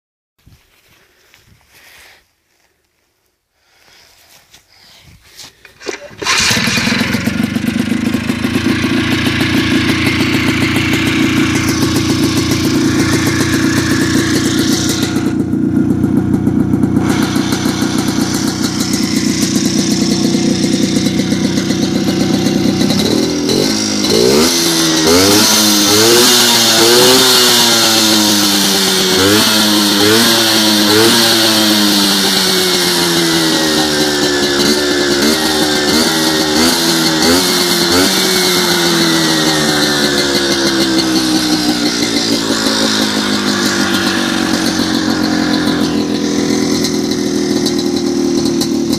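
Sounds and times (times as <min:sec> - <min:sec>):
tractor engine running and revving: 0:05.7 - 0:48.9.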